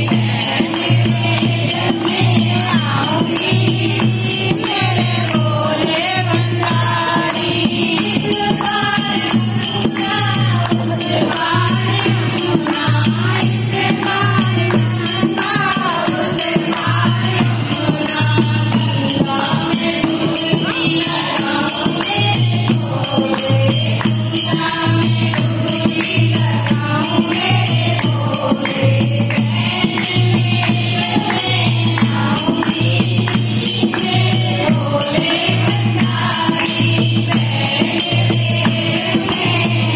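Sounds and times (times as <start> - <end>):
rhythmic hand clapping: 0.0 - 39.9
women singing devotional song: 0.0 - 39.9.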